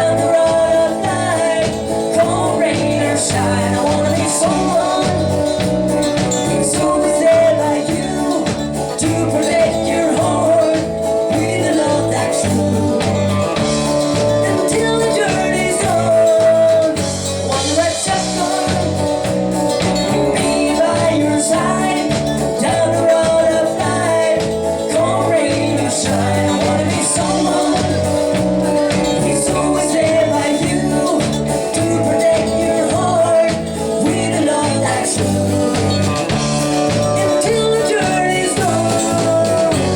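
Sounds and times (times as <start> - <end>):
bass and drum beat: 0.0 - 39.9
live country band playing: 0.0 - 39.9.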